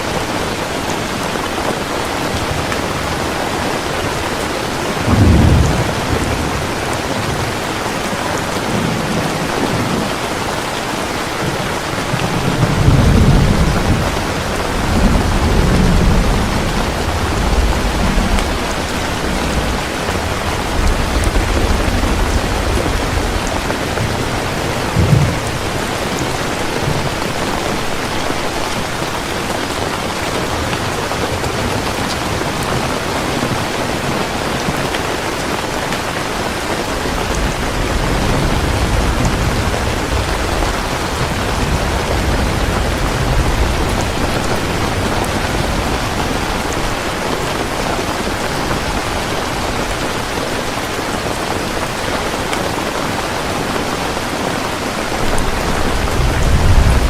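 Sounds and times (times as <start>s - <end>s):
thunder rumbling: 0.0s - 52.8s, 53.6s - 57.0s
heavy rain falling: 0.0s - 57.0s.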